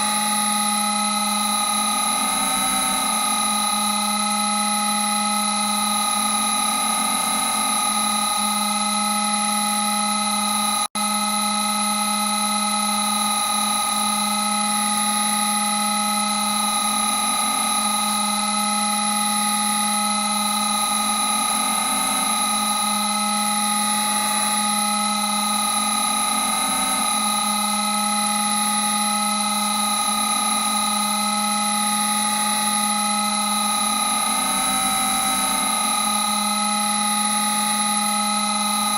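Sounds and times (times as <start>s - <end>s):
wavering high whining tones: 0.0s - 38.9s.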